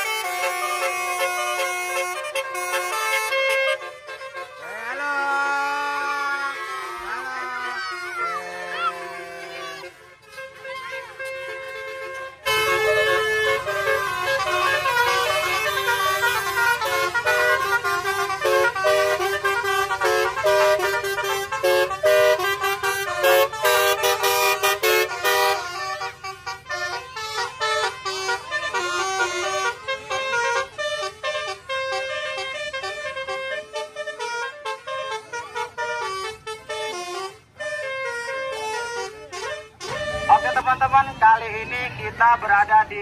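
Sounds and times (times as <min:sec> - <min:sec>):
musical air horn tune: 0:00.0 - 0:05.0, 0:06.5 - 0:41.4.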